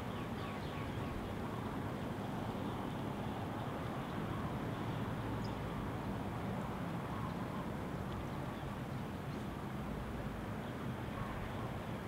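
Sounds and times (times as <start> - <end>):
low rumbling wash: 0.0 - 12.0.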